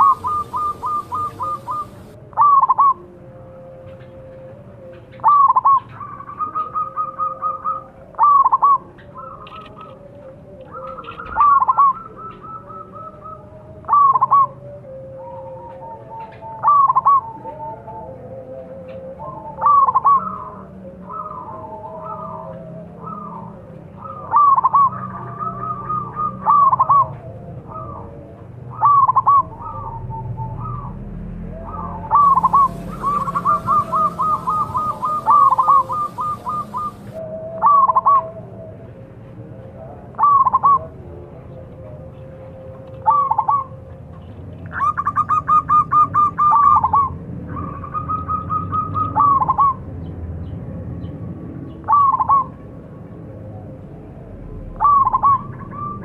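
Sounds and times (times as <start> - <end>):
dove cooing: 0.0 - 38.8, 39.8 - 42.0, 42.9 - 43.9, 44.6 - 50.0, 51.8 - 52.6, 53.3 - 56.0.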